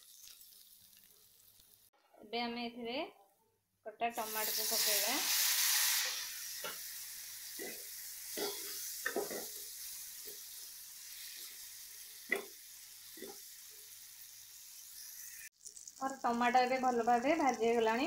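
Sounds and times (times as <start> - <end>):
tomatoes sizzling in hot oil: 0.0 - 1.9, 4.1 - 18.0.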